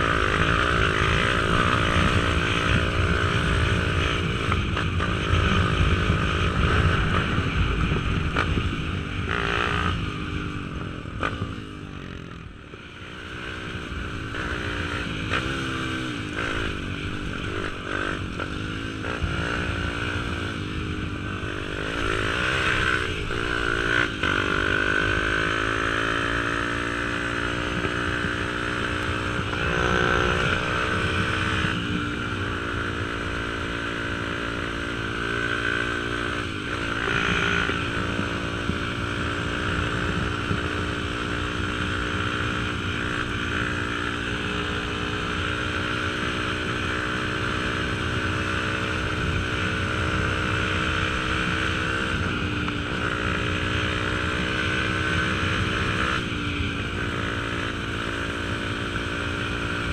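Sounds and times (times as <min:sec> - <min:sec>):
motorbike engine at light throttle: 0:00.0 - 0:59.9.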